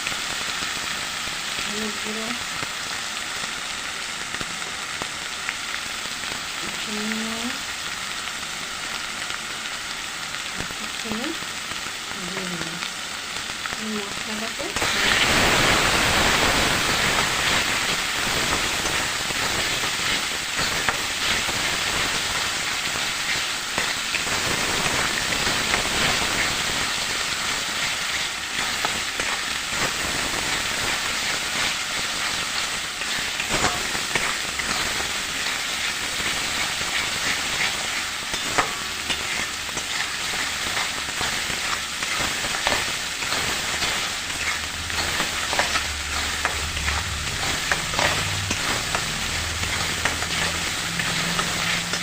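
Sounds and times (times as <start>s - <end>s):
spices sizzling in hot oil: 0.0s - 52.0s.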